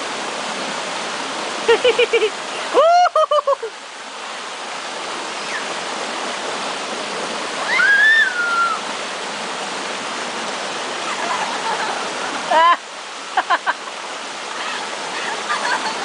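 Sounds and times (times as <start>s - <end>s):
creek water rushing over boulders: 0.0s - 16.0s.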